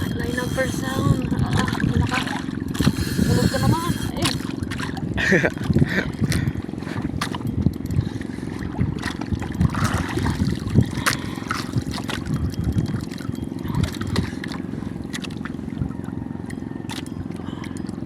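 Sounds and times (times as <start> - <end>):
steady low rumble: 0.0 - 18.0
water sloshing and trickling: 0.0 - 18.0.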